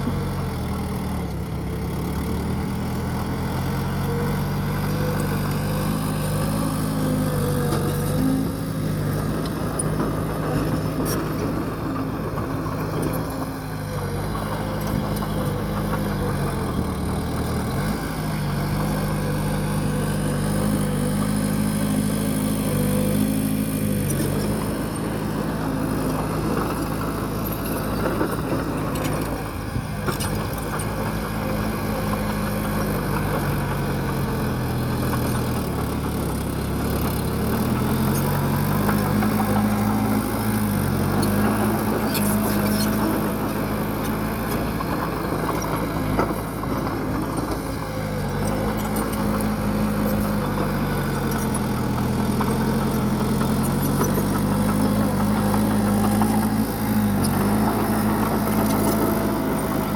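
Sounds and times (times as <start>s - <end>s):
bulldozer diesel engine: 0.0s - 59.9s.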